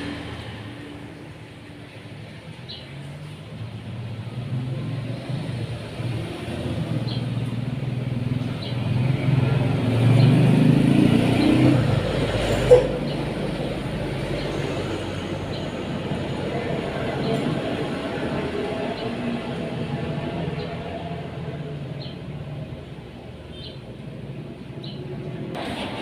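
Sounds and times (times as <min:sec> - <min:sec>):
vehicle engine rumbling past: 0:00.0 - 0:26.0.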